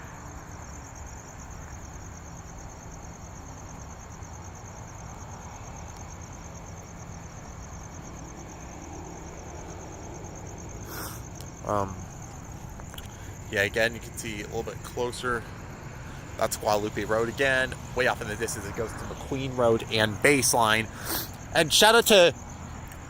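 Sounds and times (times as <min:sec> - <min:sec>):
crickets trilling: 0:00.0 - 0:23.0
road traffic rumble: 0:00.0 - 0:23.0.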